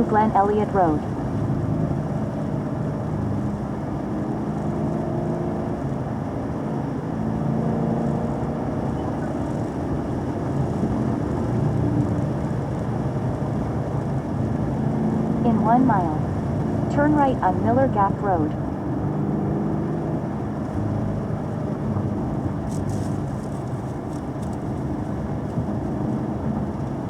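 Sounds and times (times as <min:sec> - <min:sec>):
car engine cruising: 0:00.0 - 0:27.0
tyre and road noise: 0:00.8 - 0:27.0.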